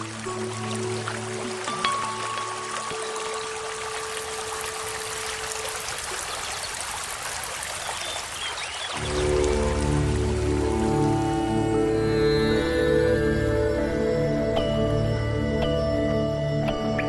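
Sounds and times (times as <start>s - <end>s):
background music: 0.0s - 5.9s, 9.0s - 17.0s
river water rushing: 0.0s - 14.6s.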